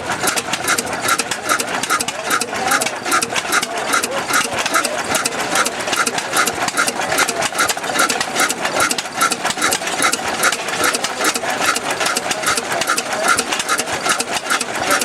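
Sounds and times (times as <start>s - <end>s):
diesel engine running: 0.0s - 15.0s
valve gear clatter: 0.0s - 15.0s.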